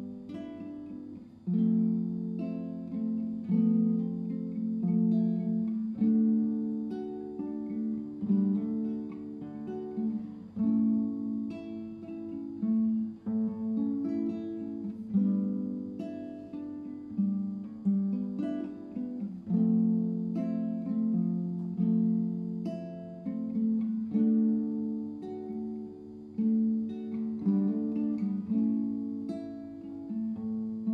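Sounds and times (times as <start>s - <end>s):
acoustic guitar strumming chords: 0.0s - 30.9s.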